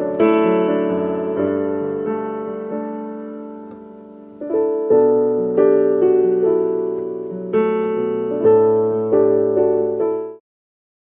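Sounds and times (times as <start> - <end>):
electric piano chords: 0.0 - 10.4.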